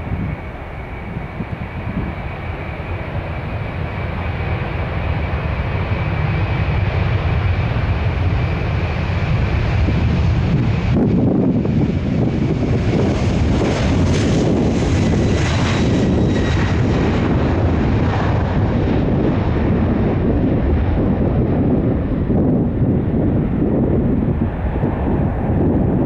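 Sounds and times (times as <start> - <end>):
airliner engines whining: 0.0 - 26.0
wind rumble on microphone: 0.0 - 26.0.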